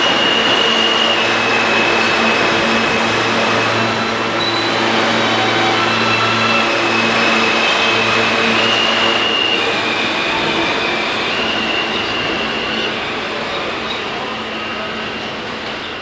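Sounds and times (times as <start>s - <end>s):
subway train rumbling: 0.0s - 16.0s
wheel squeal: 0.0s - 16.0s.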